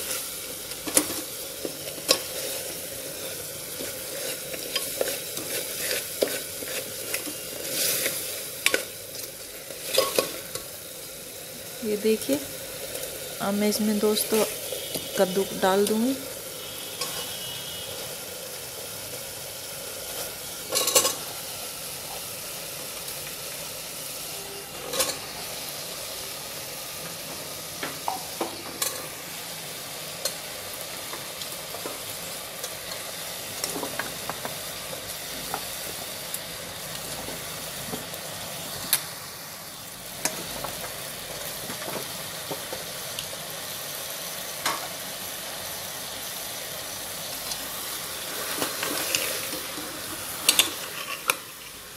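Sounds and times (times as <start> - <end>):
food sizzling in a pot: 0.0 - 51.9.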